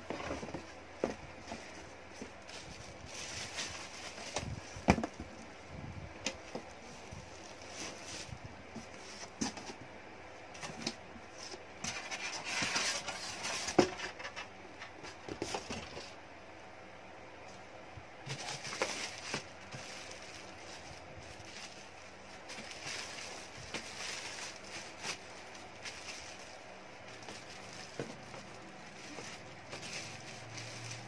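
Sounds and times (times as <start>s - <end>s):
plastic and cardboard rustling: 0.0s - 9.9s, 10.5s - 16.2s, 17.5s - 31.0s.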